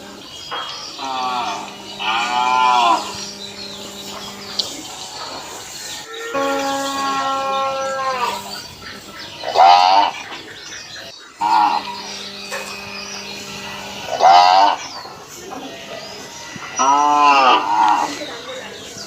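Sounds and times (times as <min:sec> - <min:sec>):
cows mooing: 0:00.0 - 0:18.5.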